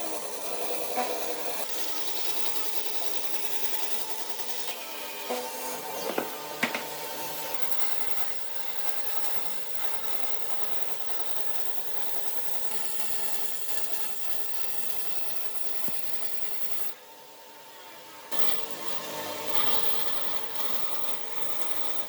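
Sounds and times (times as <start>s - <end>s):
faint motor hum: 0.0s - 22.0s.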